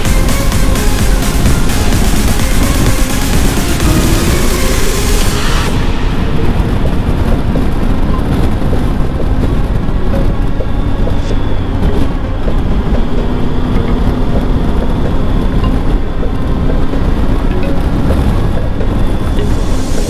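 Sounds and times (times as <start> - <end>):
motorcycle engine cruising: 0.0 - 20.0
wind and road rush: 0.0 - 20.0.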